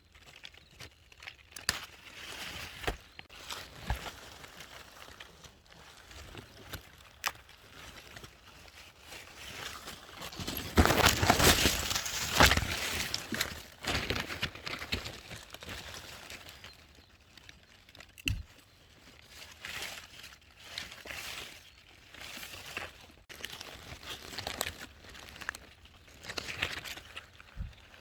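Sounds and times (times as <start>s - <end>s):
rustling and crackling: 0.0s - 28.0s.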